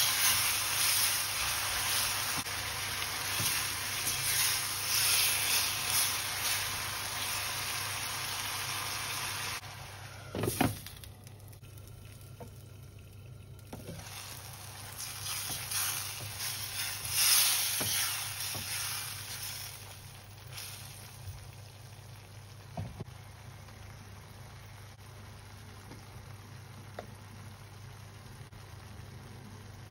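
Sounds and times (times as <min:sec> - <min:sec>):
food sizzling in a pan: 0:00.0 - 0:29.9.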